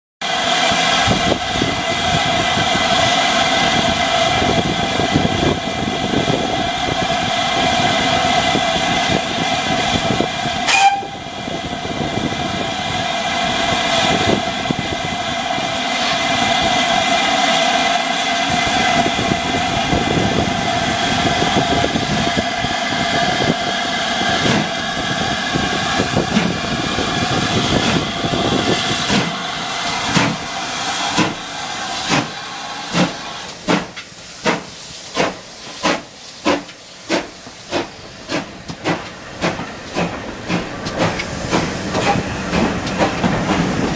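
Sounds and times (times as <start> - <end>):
steam hissing: 0.2 - 43.9
steam locomotive exhaust beats: 0.2 - 43.9.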